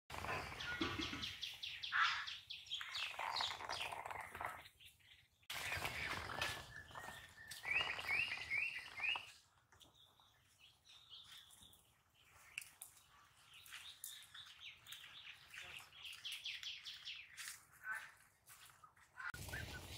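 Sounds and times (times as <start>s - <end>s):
birds chirping and calling: 0.1s - 19.9s.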